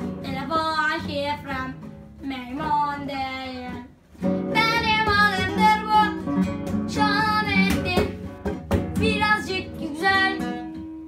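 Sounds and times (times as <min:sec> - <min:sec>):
classical guitar strumming: 0:00.0 - 0:11.0
boy singing: 0:00.2 - 0:03.9, 0:04.5 - 0:08.3, 0:09.0 - 0:11.0.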